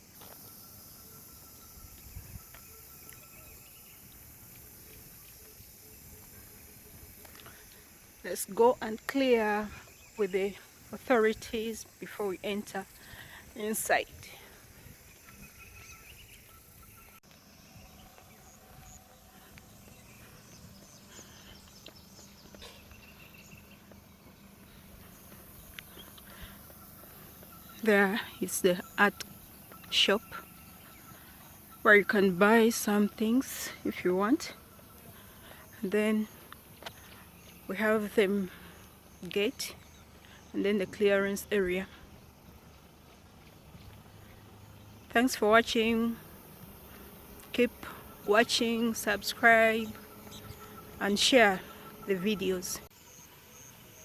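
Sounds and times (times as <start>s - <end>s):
bird chirps: 0.0s - 54.0s
high insect drone: 0.0s - 54.0s
low background hum: 0.3s - 54.0s.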